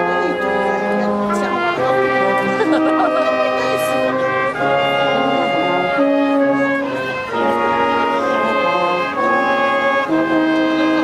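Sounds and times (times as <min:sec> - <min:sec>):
brass band playing chords: 0:00.0 - 0:11.0.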